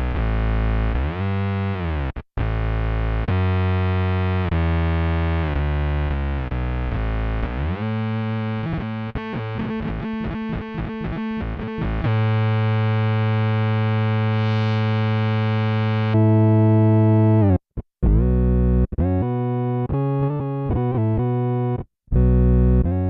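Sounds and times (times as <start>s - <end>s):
synth bass tones: 0.0s - 23.0s.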